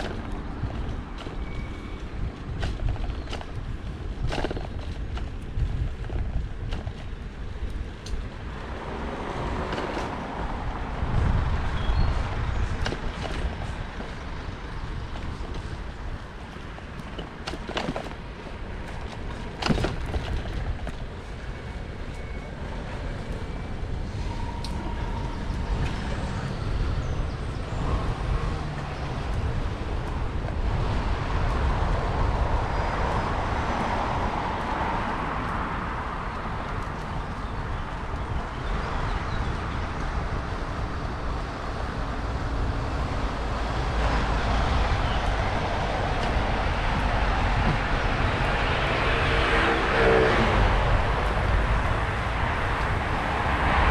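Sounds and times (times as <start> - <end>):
road traffic noise: 0.0 - 53.9.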